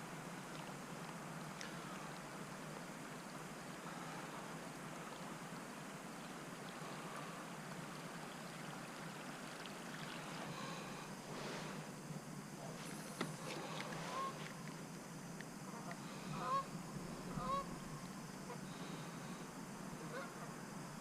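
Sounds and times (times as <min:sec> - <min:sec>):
water lapping around a kayak: 0:00.0 - 0:21.0.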